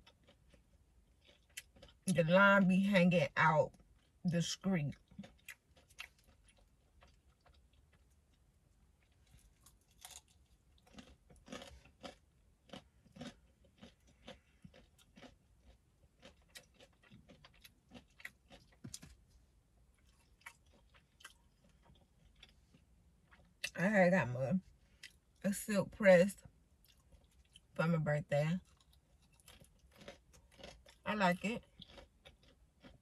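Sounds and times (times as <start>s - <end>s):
person chewing crunchy food: 0.0s - 2.1s, 4.9s - 23.7s, 24.8s - 25.4s, 26.8s - 27.7s, 28.6s - 33.0s.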